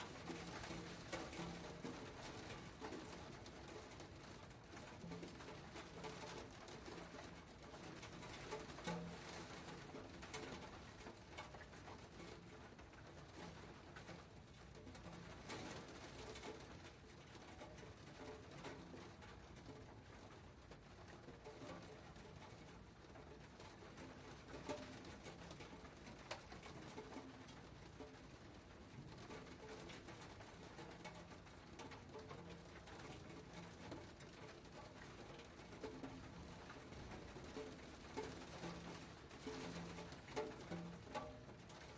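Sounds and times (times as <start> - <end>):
faint steady rain: 0.0 - 41.9
raindrops striking: 0.0 - 41.9.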